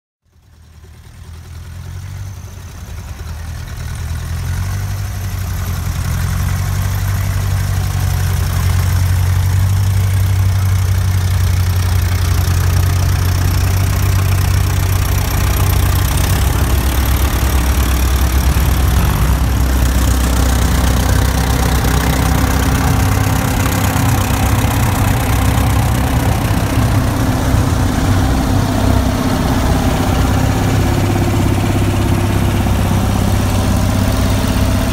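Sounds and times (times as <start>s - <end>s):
tractor engine chugging: 0.2s - 34.9s.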